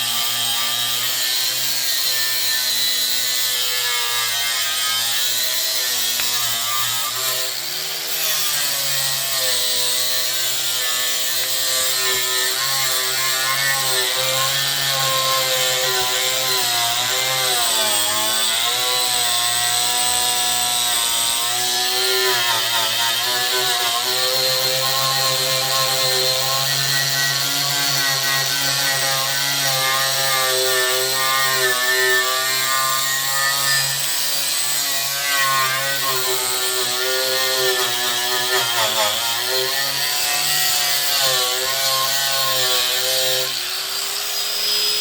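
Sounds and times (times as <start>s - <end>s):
angle grinder whining: 0.0s - 45.0s.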